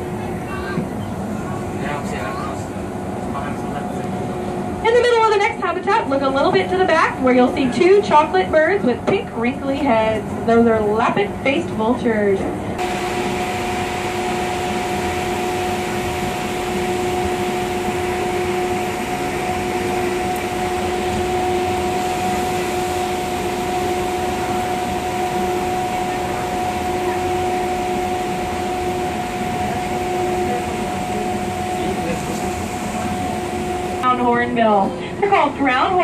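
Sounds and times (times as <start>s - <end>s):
monorail train humming: 0.0s - 36.0s.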